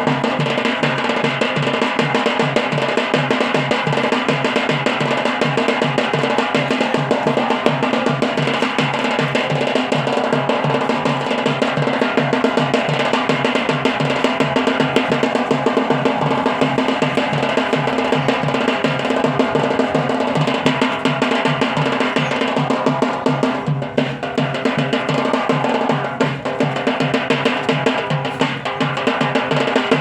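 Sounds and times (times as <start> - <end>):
drums beating a fast rhythm: 0.0 - 30.0.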